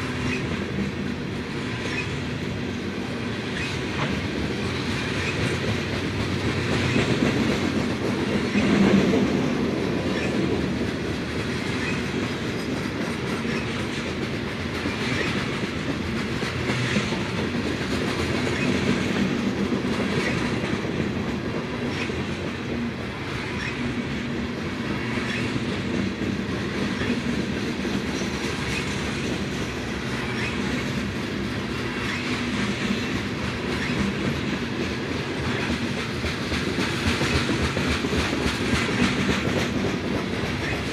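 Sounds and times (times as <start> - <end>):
freight train rolling past: 0.0 - 40.9
wheels clacking over rail joints: 0.0 - 40.9.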